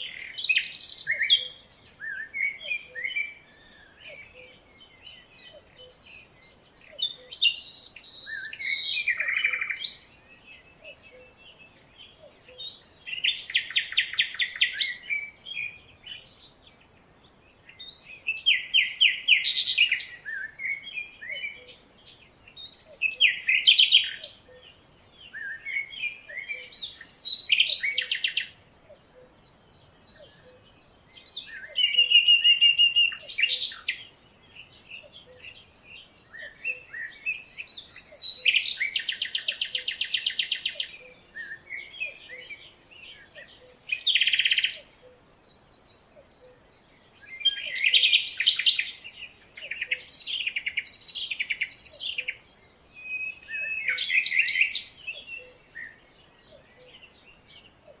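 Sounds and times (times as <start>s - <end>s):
songbirds trilling chirps: 0.0s - 58.0s.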